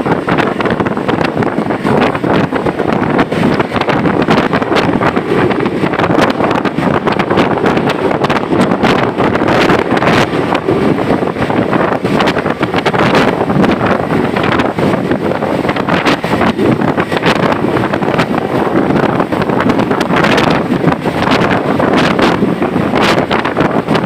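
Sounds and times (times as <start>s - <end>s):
bus engine: 0.0s - 24.0s
road noise: 0.0s - 24.0s
wind buffeting microphone: 0.0s - 24.0s.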